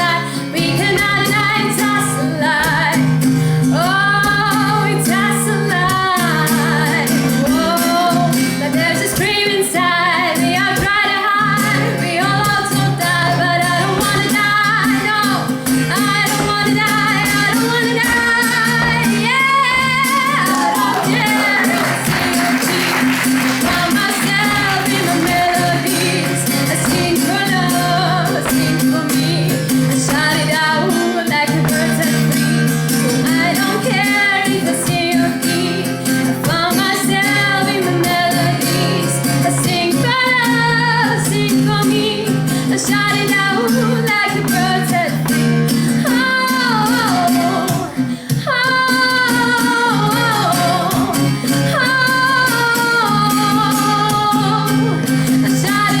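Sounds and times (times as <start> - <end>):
strummed guitar: 0.0 - 56.0
woman singing: 0.0 - 56.0.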